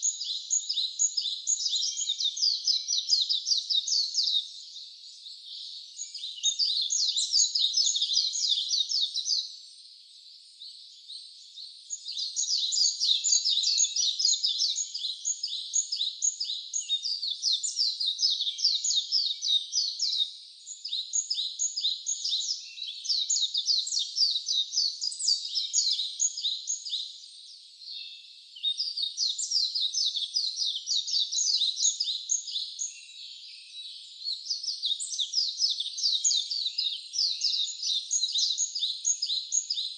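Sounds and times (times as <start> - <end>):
birds chirping: 0.0 - 9.4, 10.2 - 39.9.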